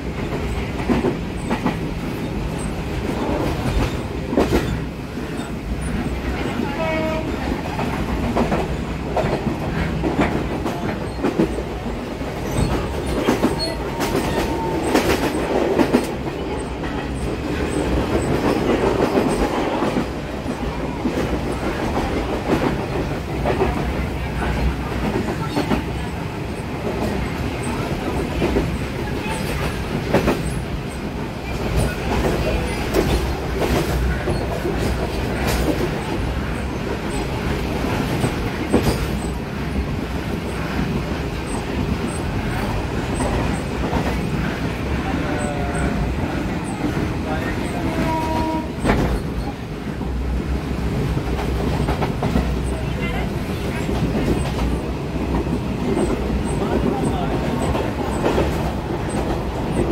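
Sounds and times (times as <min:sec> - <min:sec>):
train rumble inside carriage: 0:00.0 - 0:59.9.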